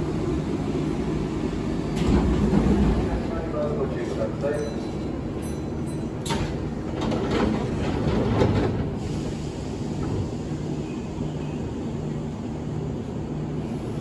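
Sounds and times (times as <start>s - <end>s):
train doors shutting: 0.1s - 12.4s.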